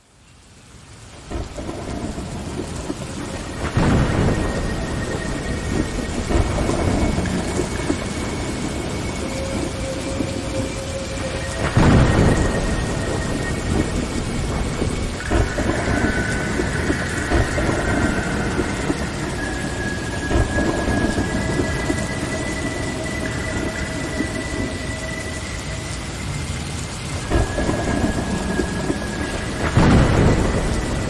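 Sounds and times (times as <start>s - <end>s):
low rumbling noise: 1.2s - 31.0s.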